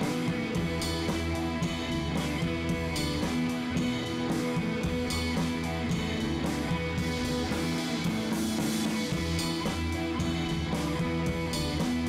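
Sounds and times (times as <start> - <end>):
instrumental music with guitar: 0.0 - 12.0
steady drum beat: 0.0 - 12.0.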